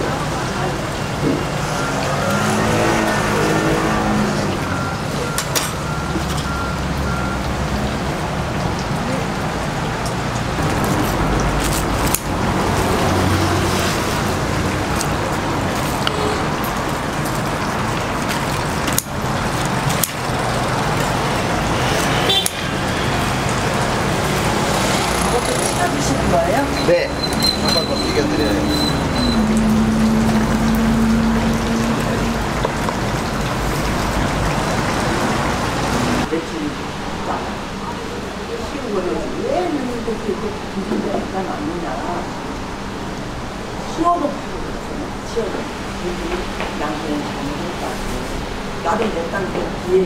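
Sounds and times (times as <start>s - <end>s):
traffic noise: 0.0s - 50.0s.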